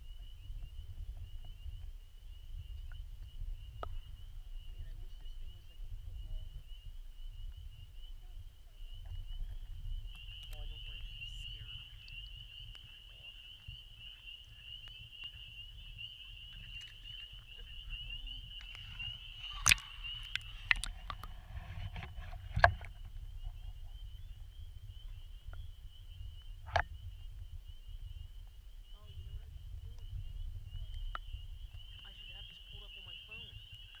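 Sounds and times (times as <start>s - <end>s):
chorus of calling frogs: 0.0s - 34.0s
low water rumble: 0.0s - 34.0s.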